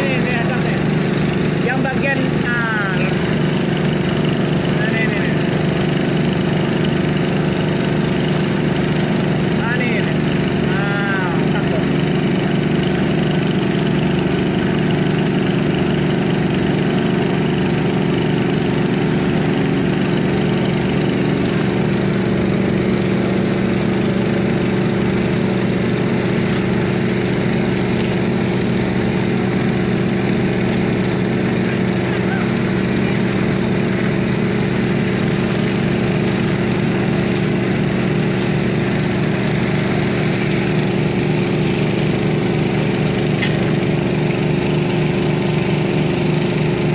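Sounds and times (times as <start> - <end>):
small engine droning: 0.0 - 46.9.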